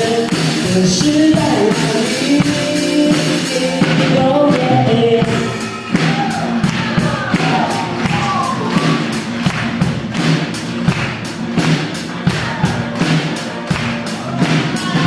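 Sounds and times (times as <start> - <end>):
pop song drum beat: 0.0 - 15.0.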